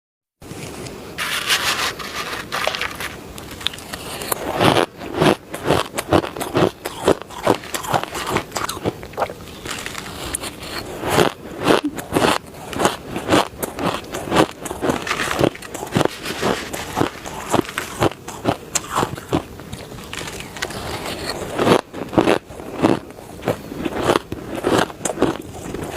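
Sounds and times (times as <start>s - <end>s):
chewing crunchy ice: 2.2s - 25.9s.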